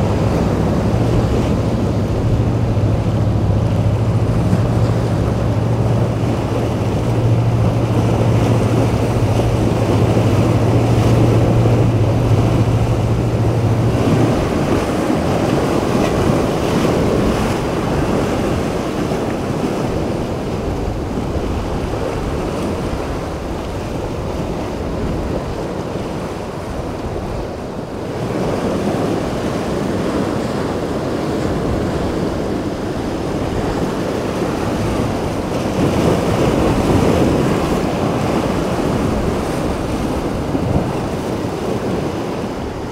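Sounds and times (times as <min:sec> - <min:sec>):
boat engine drone: 0:00.0 - 0:42.9
waves breaking: 0:00.0 - 0:42.9
wind buffeting microphone: 0:00.0 - 0:42.9.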